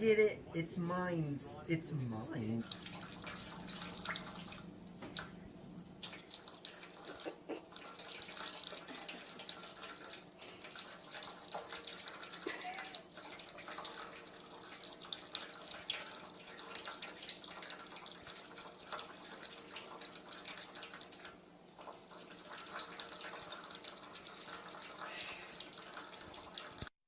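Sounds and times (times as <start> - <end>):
water running from a tap: 2.6 - 27.0.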